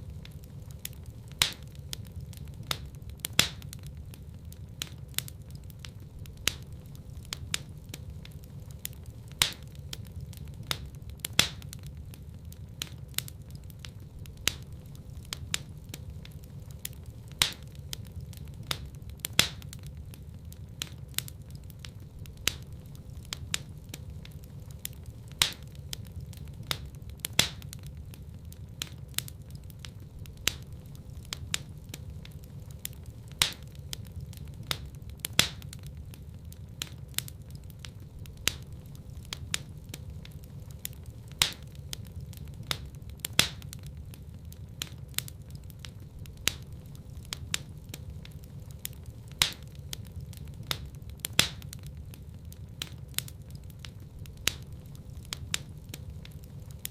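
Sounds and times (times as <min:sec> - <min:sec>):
fire pops: 0:00.0 - 0:56.9
wood fire crackling: 0:00.0 - 0:56.9.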